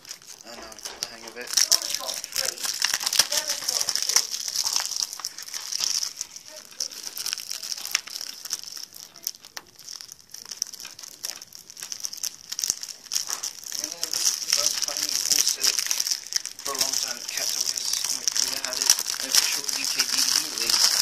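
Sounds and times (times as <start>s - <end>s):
plastic shrink-wrap crinkling: 0.0s - 21.0s.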